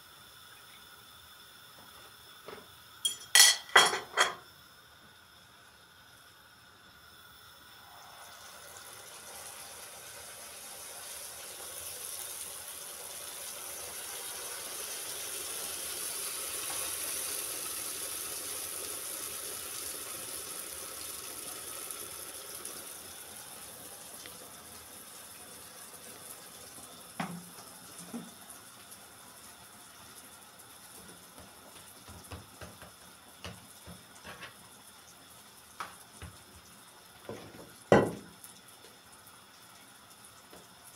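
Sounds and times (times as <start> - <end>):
dough sizzling in hot oil: 0.0 - 40.9.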